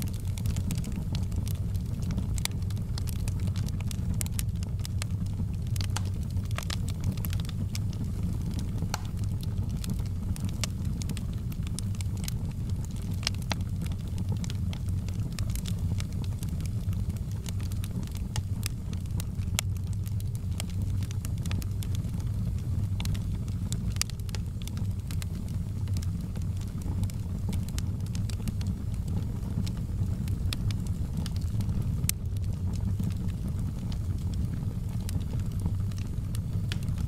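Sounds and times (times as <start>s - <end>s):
fire rumbling: 0.0s - 37.0s
logs crackling and popping: 0.0s - 37.0s.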